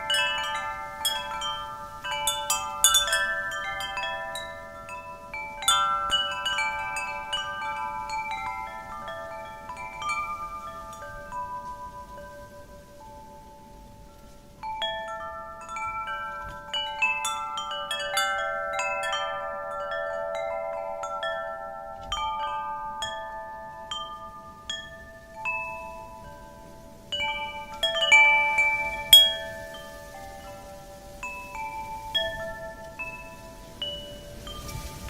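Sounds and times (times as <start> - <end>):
faint wind noise: 0.0 - 35.0
wind chimes ringing: 0.0 - 35.0.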